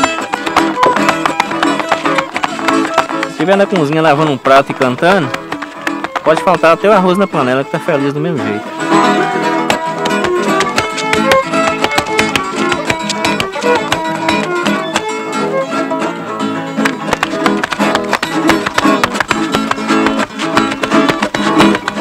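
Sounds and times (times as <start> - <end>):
viola caipira plucked notes: 0.0 - 22.0.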